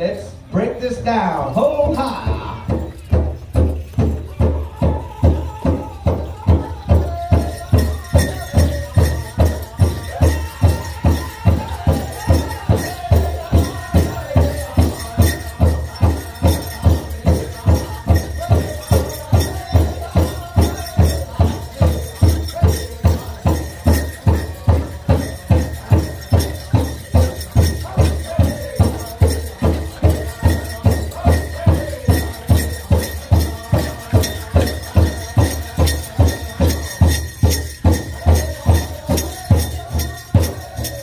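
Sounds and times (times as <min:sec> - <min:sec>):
big drum steady beat: 0:01.4 - 0:41.0
drum group singing high: 0:01.6 - 0:41.0.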